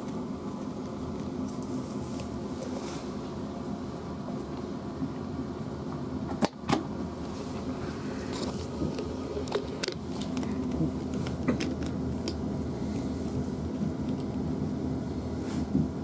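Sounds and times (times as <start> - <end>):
electric train hum: 0.0 - 16.0
train running noise: 0.0 - 16.0.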